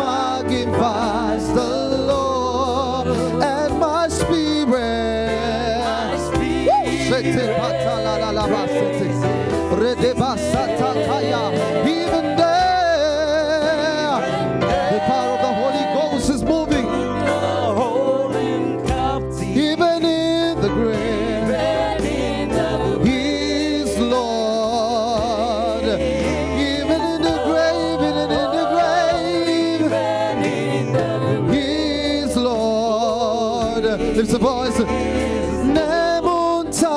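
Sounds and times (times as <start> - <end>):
instrumental backing with beat: 0.0 - 36.9
solo voice singing: 0.0 - 36.9.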